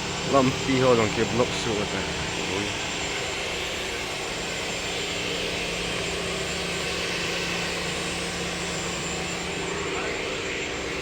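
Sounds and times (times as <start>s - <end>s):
machine engine droning: 0.0s - 11.0s.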